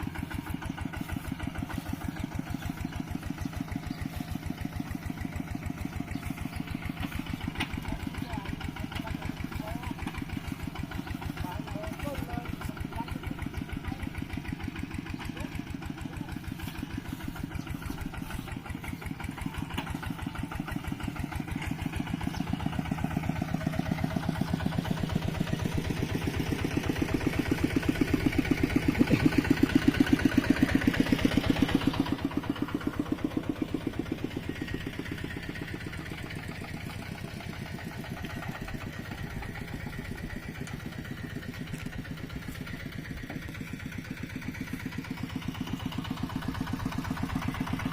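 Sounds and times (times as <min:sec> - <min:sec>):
diesel tractor engine chugging: 0:00.0 - 0:47.9.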